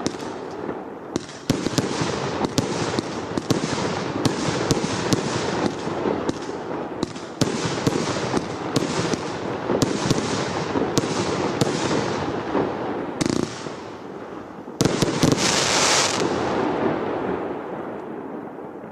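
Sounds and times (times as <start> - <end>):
firework bangs: 0.0 - 18.9
firework hissing and crackling: 0.0 - 18.9.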